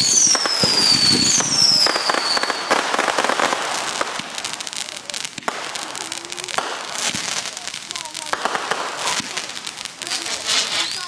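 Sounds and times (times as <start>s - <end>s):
firework bang: 0.0s - 11.0s
fireworks crackling and popping: 0.0s - 11.0s
whistling firework: 0.0s - 11.0s.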